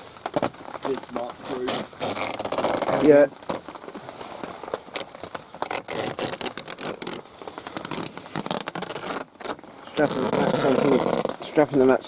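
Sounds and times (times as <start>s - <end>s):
straps scraping and clicking: 0.0s - 12.0s.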